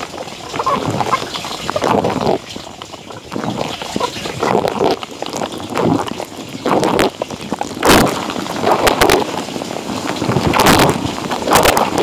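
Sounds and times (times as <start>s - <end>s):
dishwasher water jets splashing: 0.0s - 12.0s.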